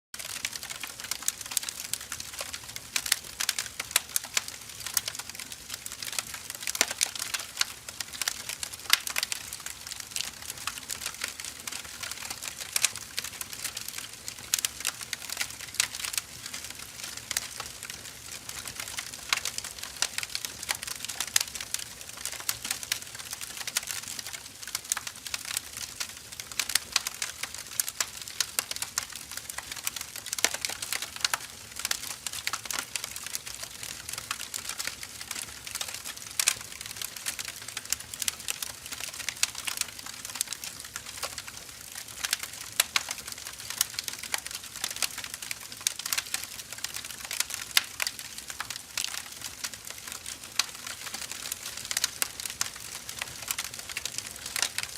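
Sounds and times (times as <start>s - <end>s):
firewood crackling and popping: 0.2s - 54.9s.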